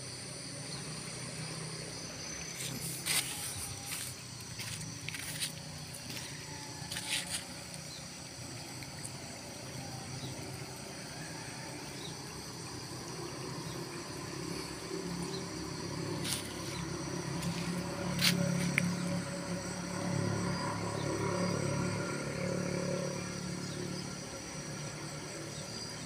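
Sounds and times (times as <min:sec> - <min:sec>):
high insect drone: 0:00.0 - 0:26.0
low motor hum: 0:00.0 - 0:26.0.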